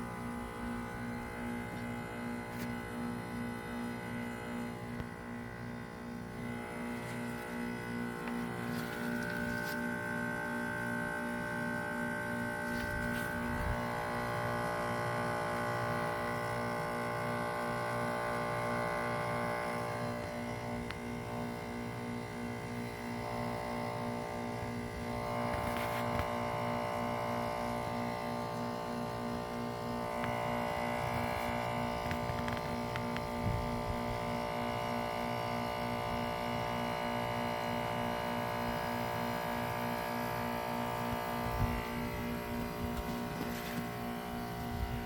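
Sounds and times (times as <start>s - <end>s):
heat pump humming: 0.0s - 45.0s.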